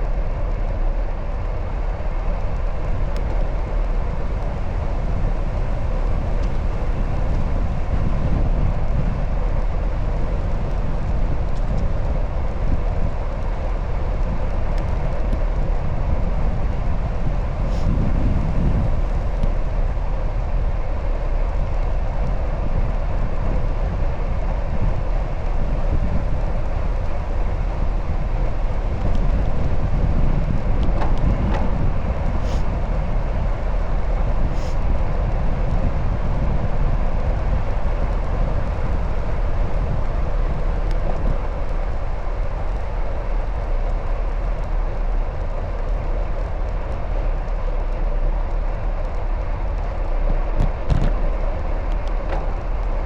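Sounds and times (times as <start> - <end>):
bicycle road noise: 0.0 - 53.0
wind buffeting microphone: 0.0 - 53.0.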